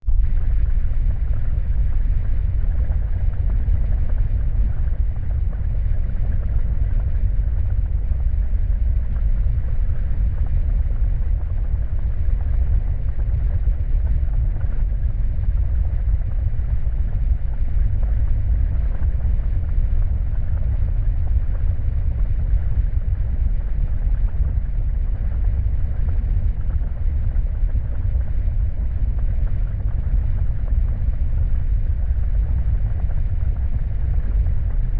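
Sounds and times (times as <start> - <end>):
deep rumbling drone: 0.0 - 34.9.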